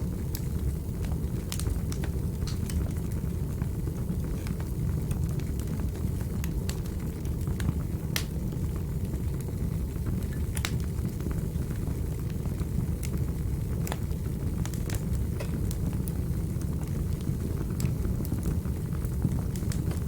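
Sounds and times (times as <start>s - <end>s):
fire rumbling: 0.0s - 20.0s
wood fire pops and snaps: 0.2s - 8.7s, 10.2s - 11.3s, 12.3s - 20.0s.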